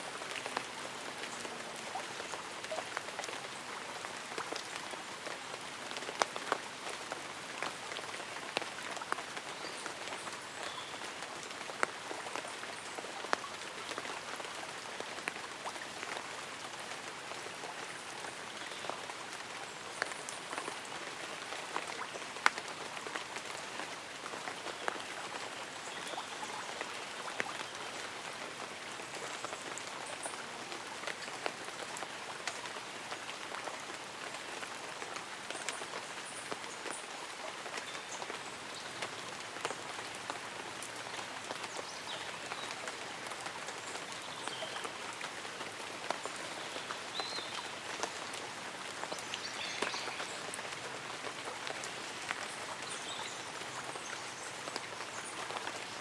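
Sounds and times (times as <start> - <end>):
light rain hiss: 0.0 - 56.0
raindrops striking leaves and umbrella: 0.0 - 56.0.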